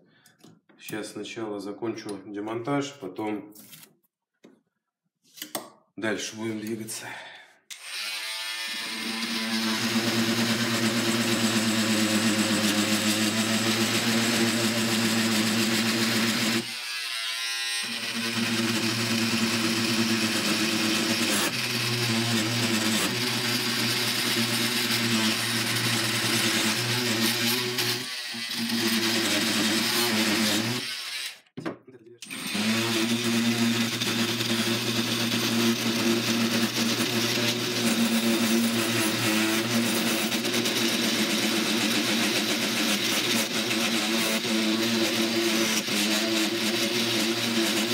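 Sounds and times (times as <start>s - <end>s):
oscillating multi-tool sawing wood: 7.7s - 31.4s, 32.2s - 47.9s.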